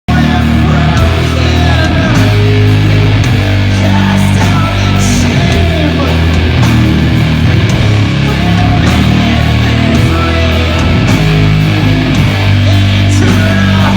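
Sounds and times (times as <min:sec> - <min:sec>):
doom metal band playing: 0:00.1 - 0:13.9.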